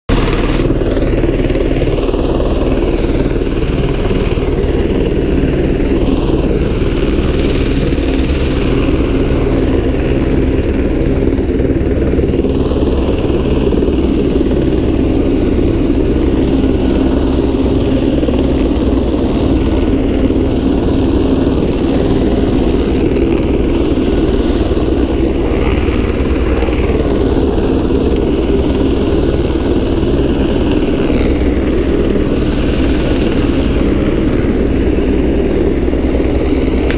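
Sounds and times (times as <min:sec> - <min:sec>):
helicopter engine and rotor: 0:00.1 - 0:36.9.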